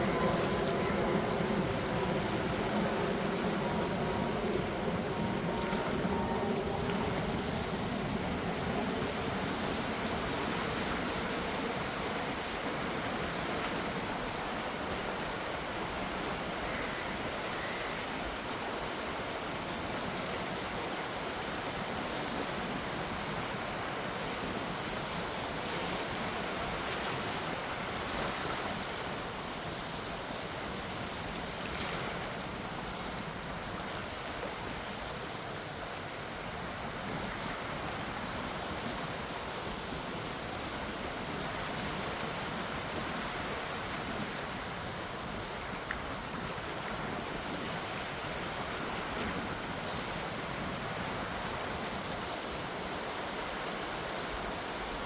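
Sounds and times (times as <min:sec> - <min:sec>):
gentle sea waves washing: 0:00.0 - 0:55.0.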